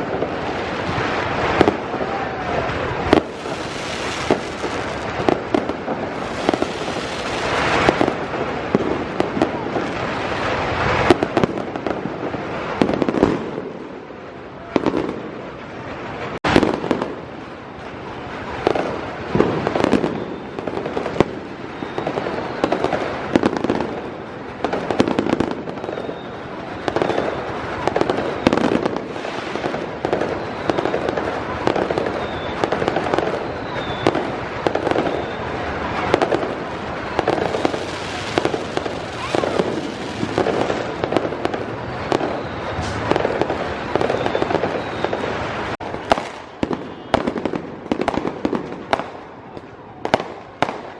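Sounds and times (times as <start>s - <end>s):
fireworks crackling and popping: 0.0s - 50.9s.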